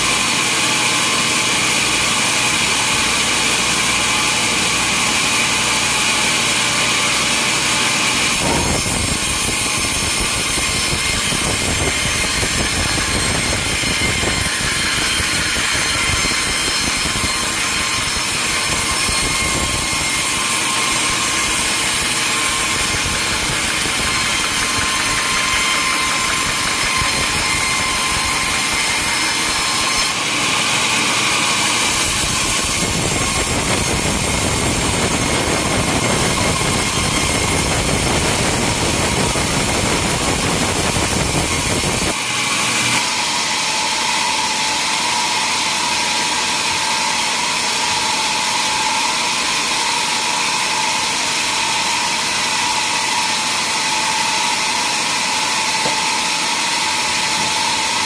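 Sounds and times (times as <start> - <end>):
sawmill machinery sawing logs: 0.0 - 58.0.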